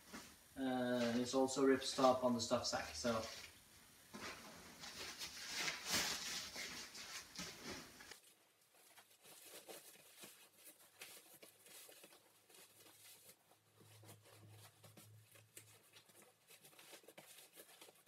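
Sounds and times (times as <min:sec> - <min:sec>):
nylon fabric rustling: 0:02.8 - 0:18.0.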